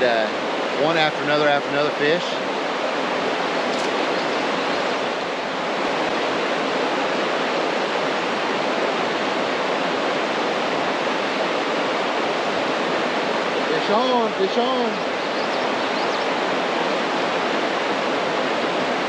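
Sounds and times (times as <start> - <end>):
water rushing over waterfalls: 0.0 - 19.0.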